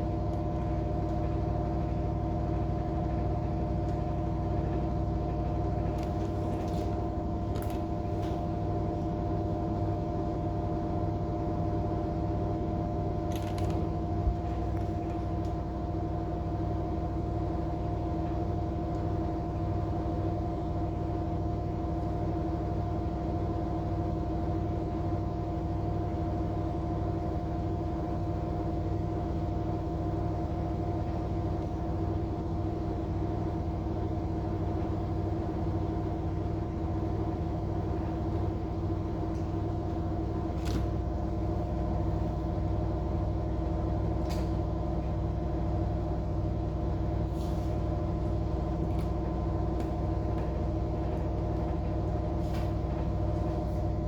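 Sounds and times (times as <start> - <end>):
air conditioner humming: 0.0 - 54.0.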